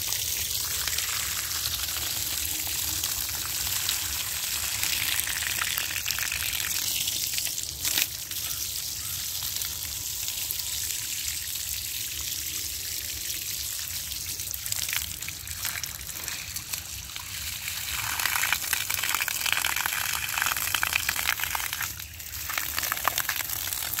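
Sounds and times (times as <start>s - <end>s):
hose water splashing on brick: 0.0s - 10.6s, 13.4s - 24.0s.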